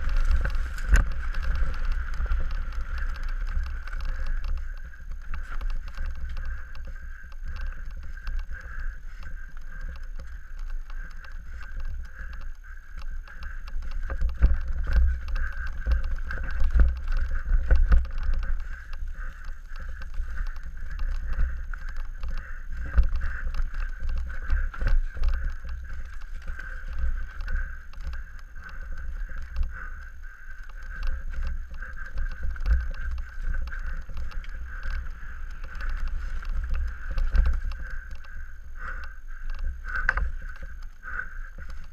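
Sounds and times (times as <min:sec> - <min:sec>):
bike knocking and rattling: 0:00.0 - 0:41.9
wind rumble on microphone: 0:00.0 - 0:41.9.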